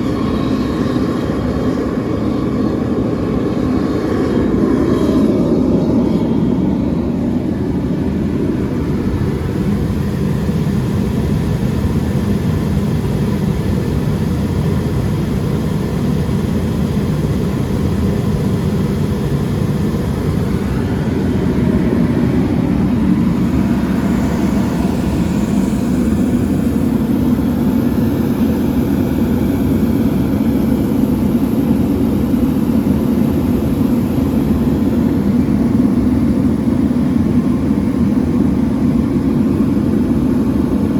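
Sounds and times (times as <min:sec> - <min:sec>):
heater burner and fan drone: 0:00.0 - 0:40.9.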